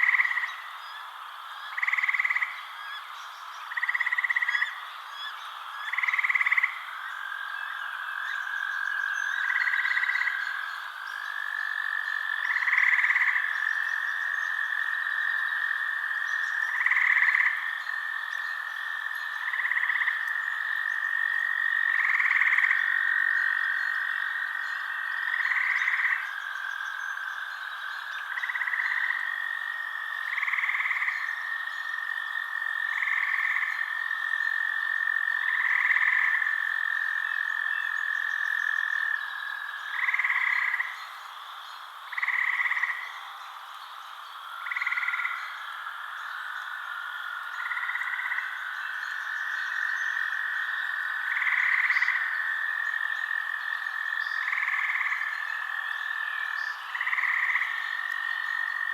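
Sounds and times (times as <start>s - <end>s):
frogs calling: 0.0s - 58.9s.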